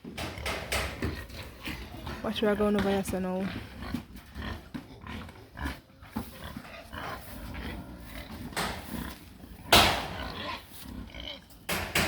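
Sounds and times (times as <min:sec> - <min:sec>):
pig grunting: 0:00.2 - 0:11.5.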